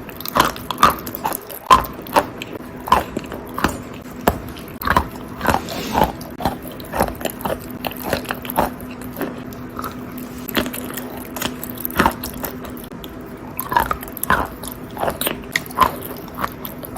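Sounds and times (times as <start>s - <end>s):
crisp chewing crunches: 0.0s - 5.6s, 6.4s - 16.9s.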